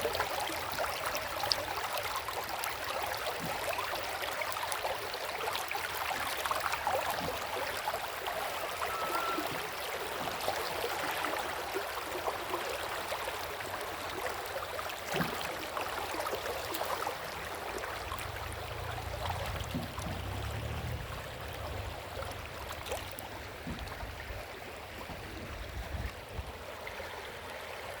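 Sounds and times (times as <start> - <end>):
river water flowing over stones: 0.0 - 28.0.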